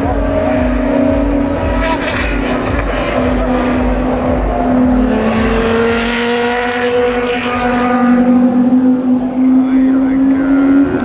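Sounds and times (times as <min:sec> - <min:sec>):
race car engines running: 0:00.0 - 0:11.0
race car passing by: 0:00.0 - 0:11.0.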